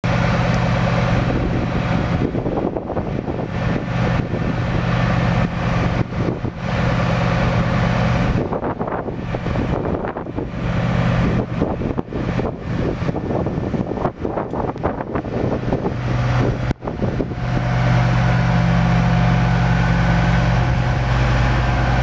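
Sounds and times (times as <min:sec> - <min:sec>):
low engine hum: 0:00.0 - 0:22.0
wind buffeting microphone: 0:00.0 - 0:22.0.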